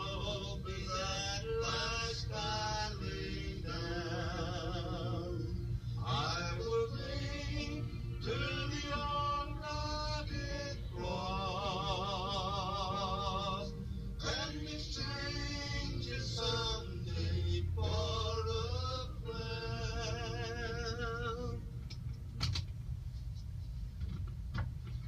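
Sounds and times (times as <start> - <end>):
man singing slow song: 0.0 - 21.7.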